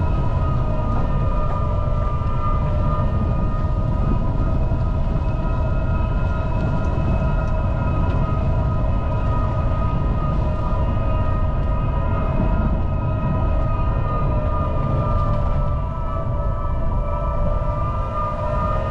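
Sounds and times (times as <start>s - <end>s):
steady whine: 0.0s - 18.9s.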